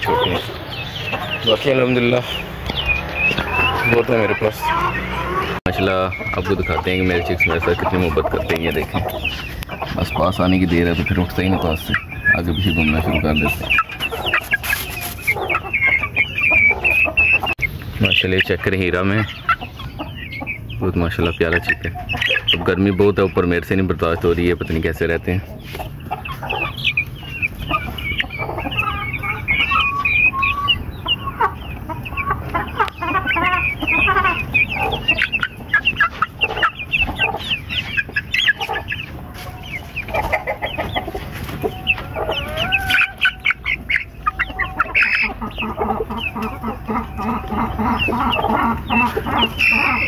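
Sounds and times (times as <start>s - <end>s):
young chickens clucking and cheeping: 0.0s - 50.0s.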